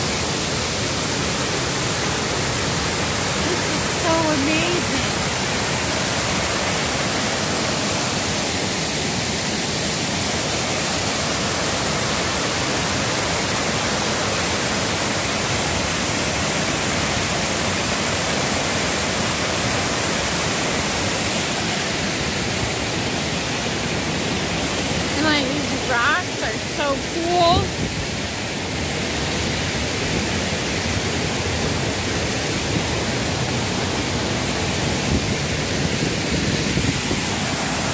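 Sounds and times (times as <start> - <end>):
waterfall rushing into a pool: 0.0 - 37.9.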